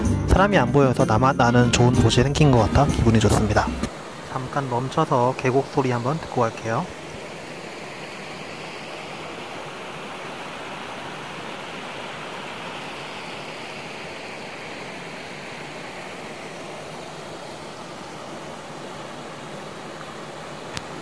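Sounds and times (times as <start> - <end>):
stream flowing over rocks: 2.2 - 21.0.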